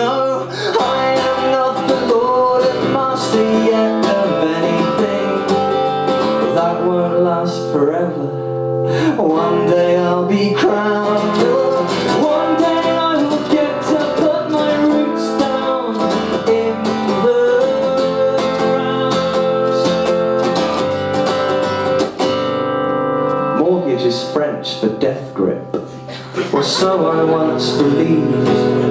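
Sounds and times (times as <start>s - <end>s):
man singing: 0.0s - 20.6s, 26.4s - 28.9s
acoustic guitar strumming: 0.0s - 28.9s.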